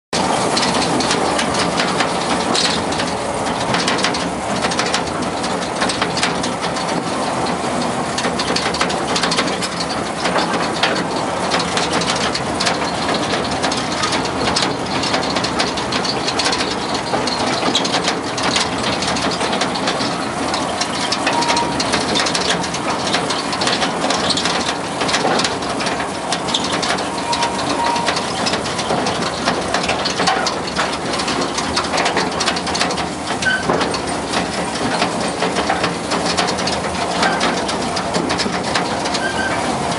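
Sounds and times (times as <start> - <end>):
engine running: 0.2 - 39.9
train rattling along track: 0.2 - 39.9.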